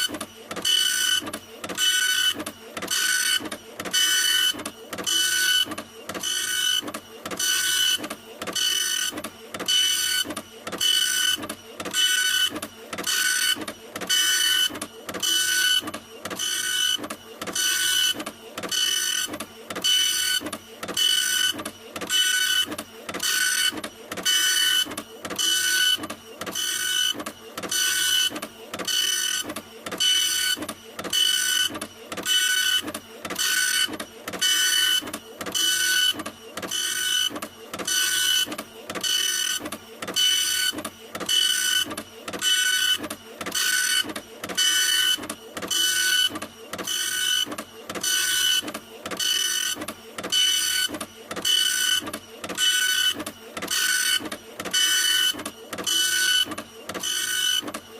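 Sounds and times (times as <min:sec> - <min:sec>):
printer mechanism whirring: 0:00.0 - 0:57.9.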